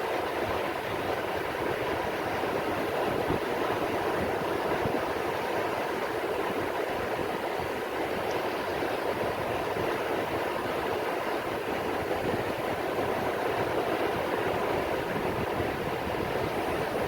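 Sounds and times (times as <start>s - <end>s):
rain falling on the sea: 0.0s - 17.0s.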